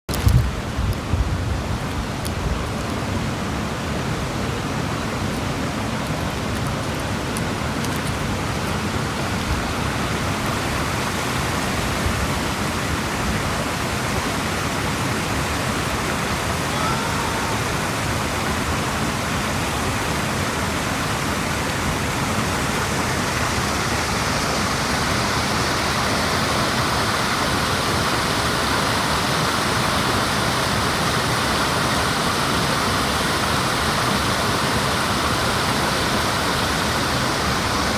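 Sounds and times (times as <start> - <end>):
rushing creek water: 0.1 - 37.9.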